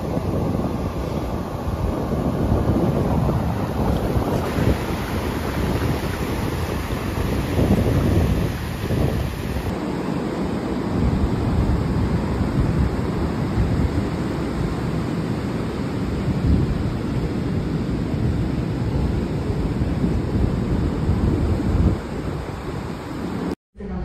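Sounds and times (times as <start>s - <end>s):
ocean surf breaking: 0.0s - 23.6s
wind buffeting microphone: 0.0s - 24.0s.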